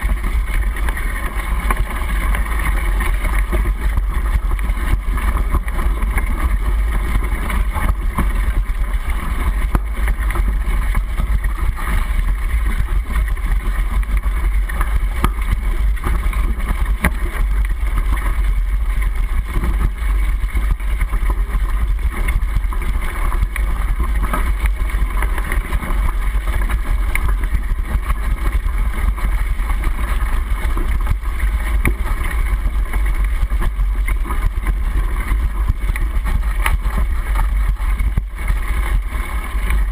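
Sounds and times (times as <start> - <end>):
bike rumbling and rattling: 0.0 - 39.9.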